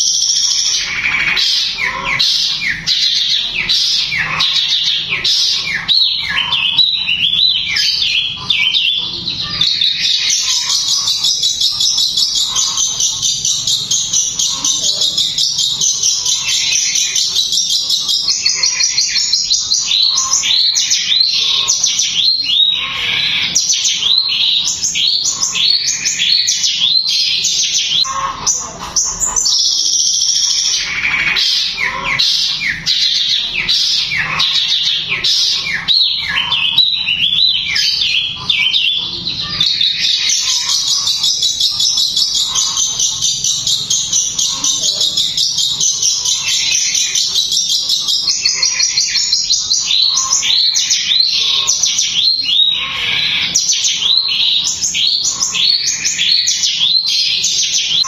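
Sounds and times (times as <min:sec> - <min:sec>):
shrike singing: 0:00.0 - 0:58.0.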